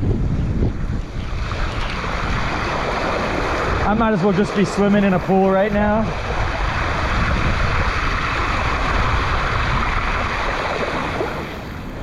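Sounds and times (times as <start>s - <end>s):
wind buffeting microphone: 0.0s - 12.0s
rushing hiss of rain: 1.4s - 11.4s.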